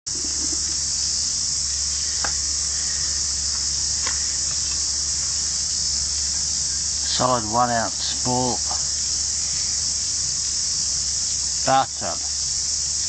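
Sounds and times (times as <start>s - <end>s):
insects buzzing: 0.1s - 13.0s.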